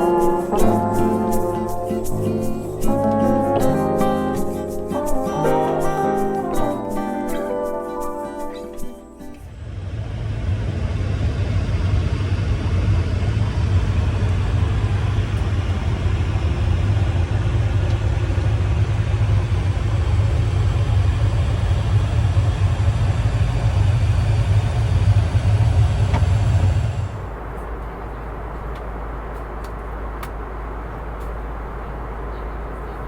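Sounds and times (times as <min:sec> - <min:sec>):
aircraft cabin engine rumble: 0:00.0 - 0:07.9, 0:09.5 - 0:33.0.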